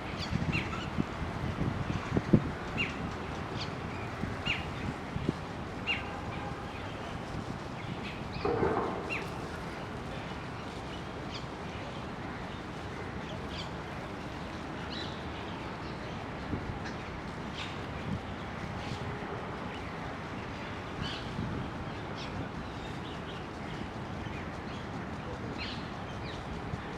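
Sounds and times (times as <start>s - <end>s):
ambient background noise: 0.0s - 26.9s.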